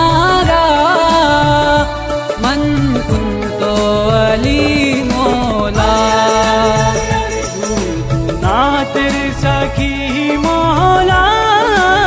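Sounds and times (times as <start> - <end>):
backing music with bass line: 0.0 - 12.0
man singing long held notes: 0.0 - 12.0.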